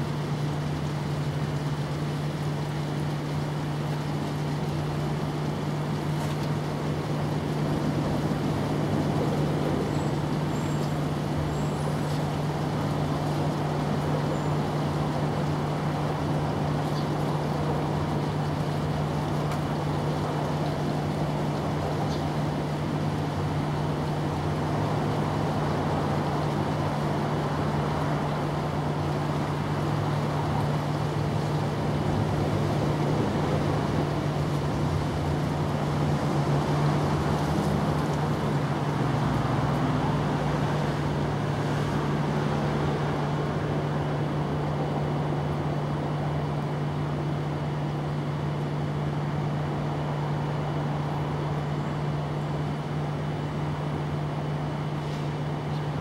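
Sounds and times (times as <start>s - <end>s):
constant noise wash: 0.0s - 56.0s
low mechanical hum: 0.0s - 56.0s.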